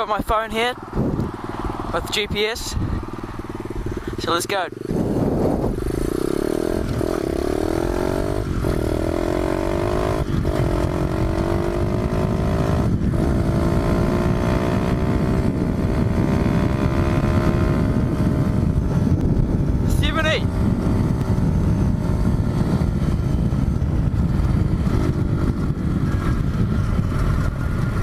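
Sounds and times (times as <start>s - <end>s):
motorbike engine accelerating: 0.6s - 28.0s.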